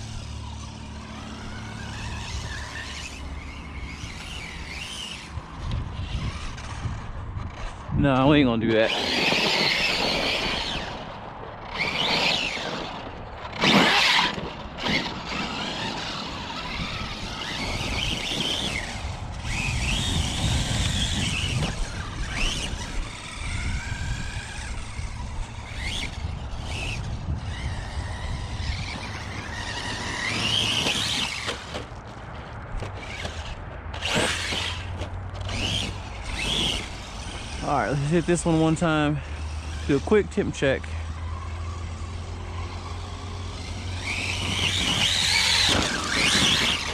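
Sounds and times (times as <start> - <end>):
rc truck motor whining: 0.0 - 46.9.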